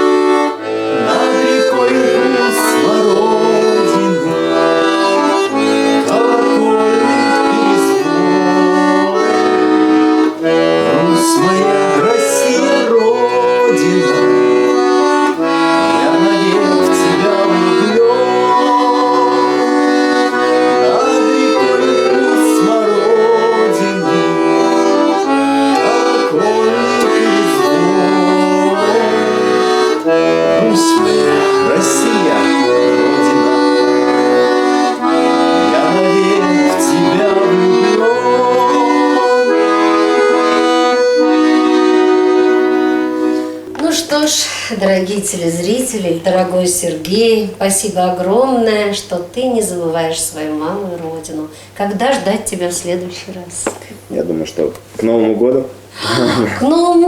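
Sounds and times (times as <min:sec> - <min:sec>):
accordion music: 0:00.0 - 0:57.0.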